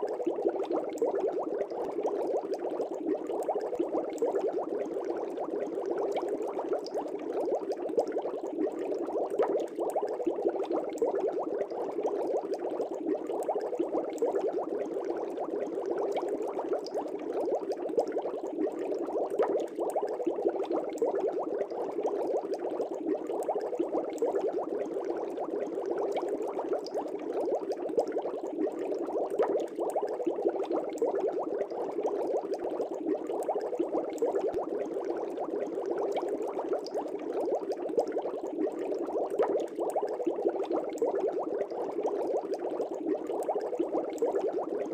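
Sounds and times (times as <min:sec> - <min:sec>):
aquarium air bubbling: 0:00.0 - 0:44.9.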